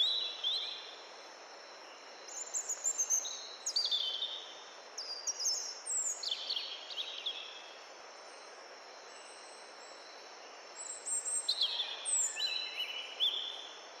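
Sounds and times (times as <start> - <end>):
small birds chirping: 0.0 - 1.0, 1.8 - 14.0
soft outdoor ambience hiss: 0.0 - 14.0.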